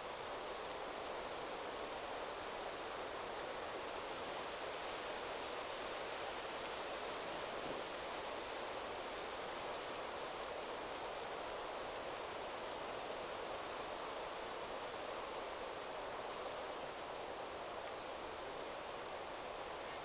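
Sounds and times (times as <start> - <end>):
wind rustling through trees: 0.0 - 20.0.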